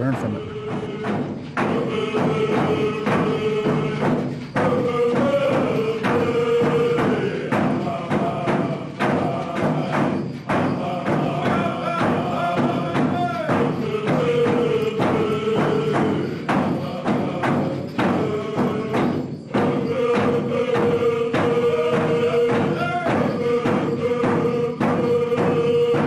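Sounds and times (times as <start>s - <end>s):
steady struck drum beat: 0.0s - 26.0s
voices singing together: 0.0s - 26.0s.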